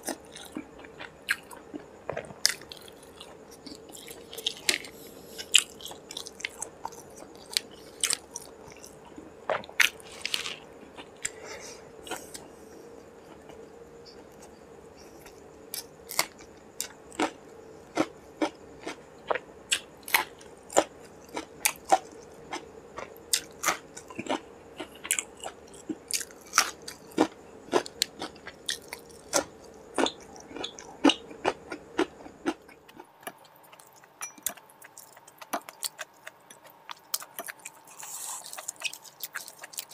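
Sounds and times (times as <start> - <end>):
person chewing food: 0.0 - 12.5, 13.2 - 39.9.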